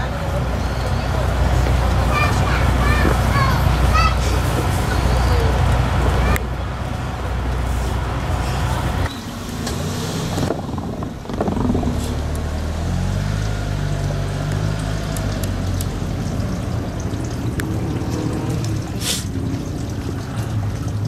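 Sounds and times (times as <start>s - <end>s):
diesel train running on track: 0.0s - 19.1s
diesel engine rising in pitch: 0.0s - 20.8s.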